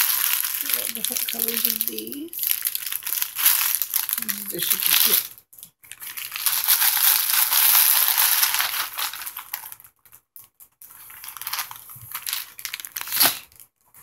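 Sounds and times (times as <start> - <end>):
plastic and paper packaging crinkling: 0.0 - 14.0.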